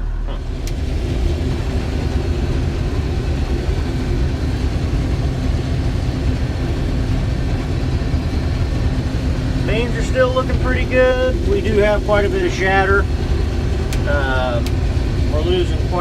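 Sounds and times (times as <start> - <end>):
combine diesel engine droning: 0.0 - 16.0.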